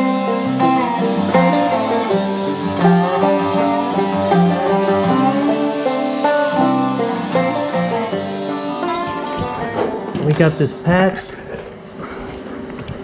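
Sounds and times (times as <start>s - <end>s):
plucked string instrumental music: 0.0s - 11.0s.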